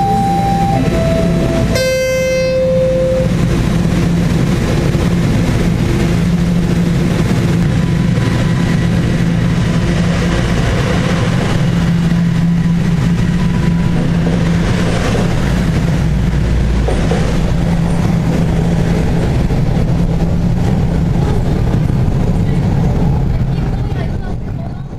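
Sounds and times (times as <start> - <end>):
subway train running: 0.0 - 24.9.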